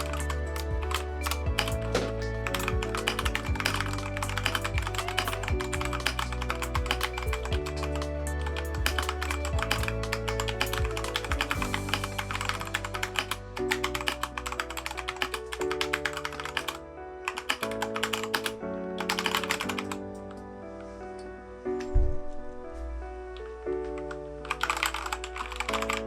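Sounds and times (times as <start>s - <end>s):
fast mechanical keyboard typing: 0.0s - 20.0s, 24.0s - 26.0s.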